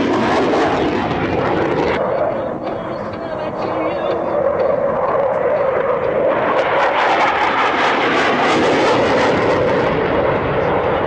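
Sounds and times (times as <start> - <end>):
jet afterburner roar with crackle: 0.0 - 11.0.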